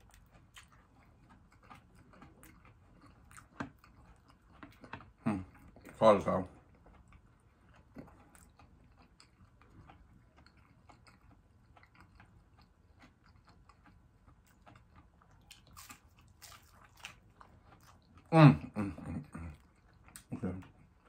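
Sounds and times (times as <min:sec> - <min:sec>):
chewing crunchy fried fish: 0:00.0 - 0:21.0.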